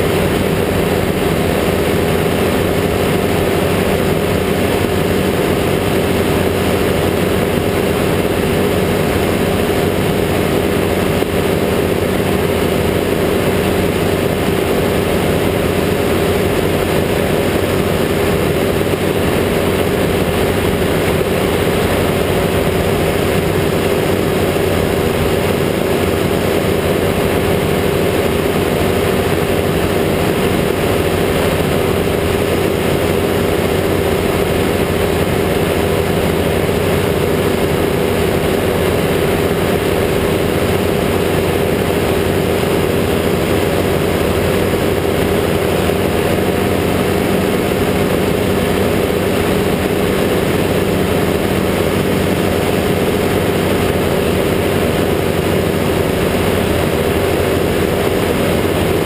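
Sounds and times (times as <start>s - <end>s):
propeller engine running: 0.0s - 59.0s.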